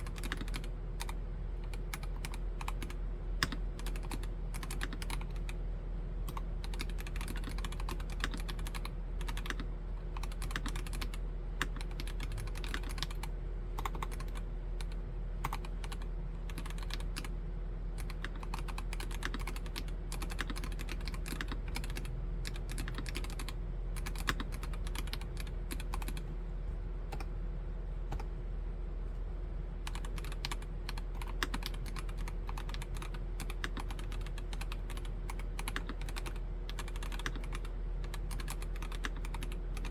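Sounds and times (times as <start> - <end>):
mechanical keyboard typing: 0.0 - 5.6, 6.3 - 26.3, 29.9 - 39.9
faint steady hum: 0.0 - 39.9.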